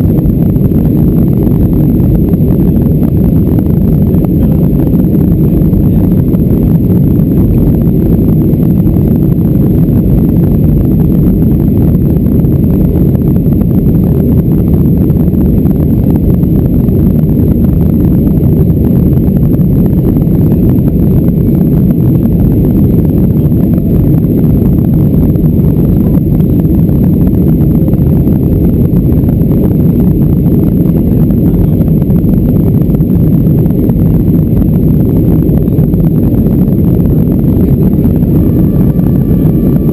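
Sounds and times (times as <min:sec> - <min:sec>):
air rushing over fuselage: 0:00.0 - 0:39.9
jet engines rumbling: 0:00.0 - 0:39.9
thin high whine: 0:00.0 - 0:39.9.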